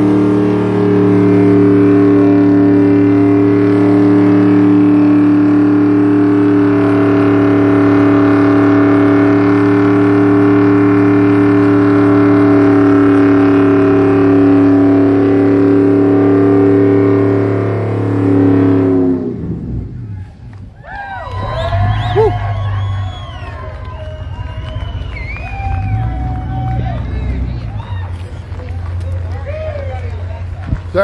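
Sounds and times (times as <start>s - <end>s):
car engine at high revs: 0.0s - 31.0s.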